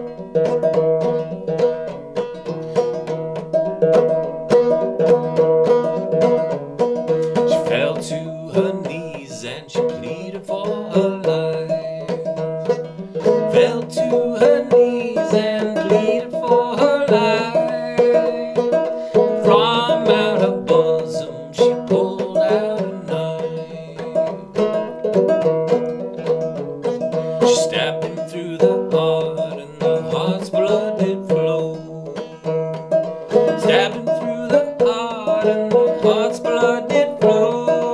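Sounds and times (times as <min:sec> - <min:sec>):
banjo playing old-time tune: 0:00.0 - 0:37.9.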